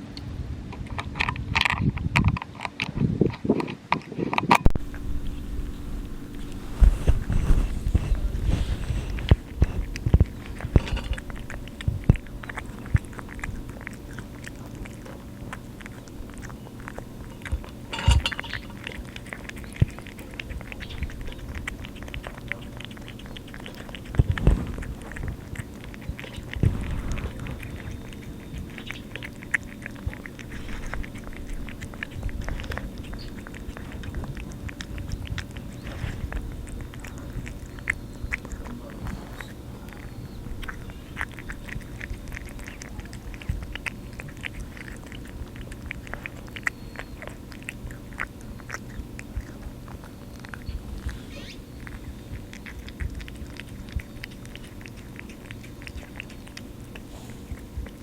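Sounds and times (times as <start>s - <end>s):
cat chewing and licking: 0.0s - 58.0s
low steady hum: 0.0s - 58.0s.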